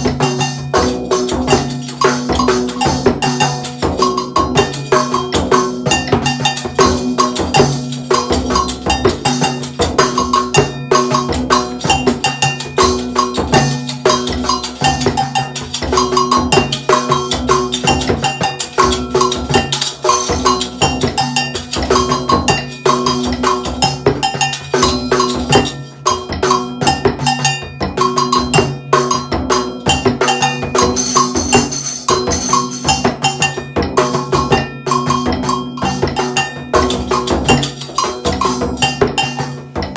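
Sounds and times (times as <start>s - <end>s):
agogo bells ringing: 0.0s - 39.9s
jingle tambourine: 0.0s - 39.9s.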